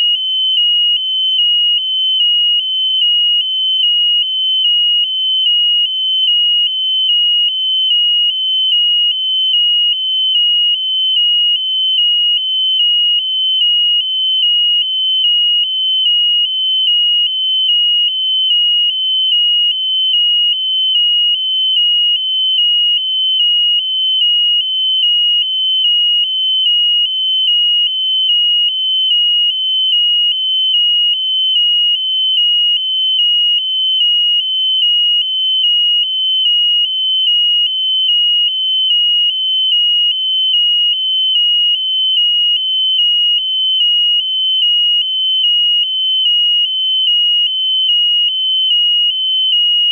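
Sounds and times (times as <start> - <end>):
warbling electronic alarm buzzer: 0.0 - 49.9.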